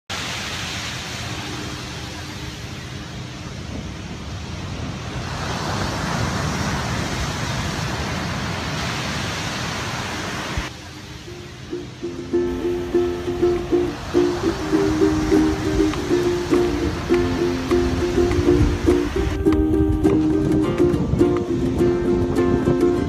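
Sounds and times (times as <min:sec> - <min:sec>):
steady rushing noise: 0:00.1 - 0:23.0.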